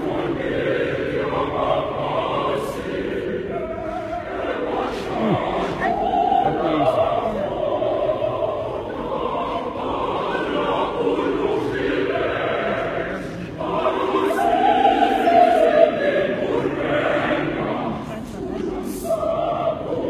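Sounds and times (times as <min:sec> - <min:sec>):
choir singing sustained notes: 0:00.0 - 0:20.0.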